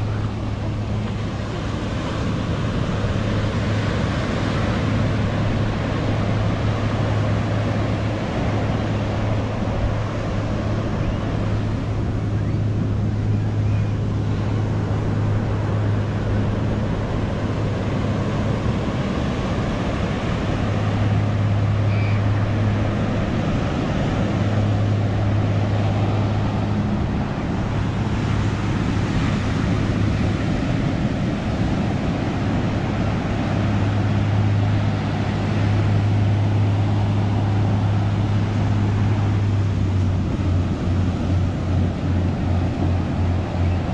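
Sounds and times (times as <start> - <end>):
constant low hum: 0.0 - 43.9
ocean surf washing ashore: 0.0 - 43.9.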